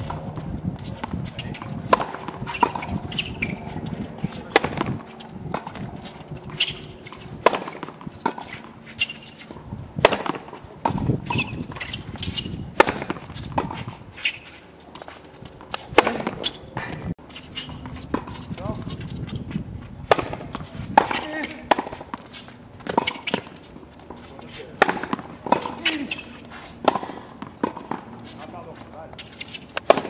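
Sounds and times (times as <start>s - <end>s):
tennis racket hitting ball: 0.0s - 16.9s, 20.0s - 30.0s.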